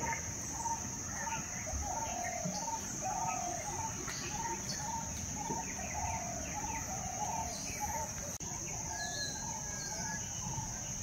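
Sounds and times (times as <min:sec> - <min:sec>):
birds calling: 0:00.0 - 0:11.0
high insect drone: 0:00.0 - 0:11.0.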